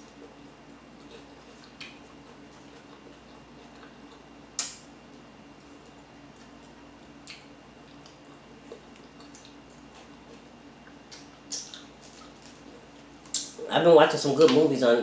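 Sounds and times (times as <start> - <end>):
person chewing: 0.0 - 13.6
faint steady hum: 0.0 - 15.0.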